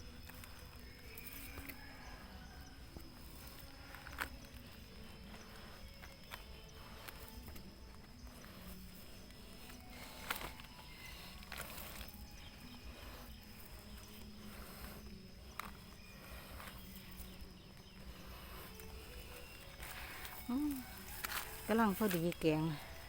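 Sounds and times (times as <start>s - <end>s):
footsteps on dry leaf litter: 0.0s - 23.0s.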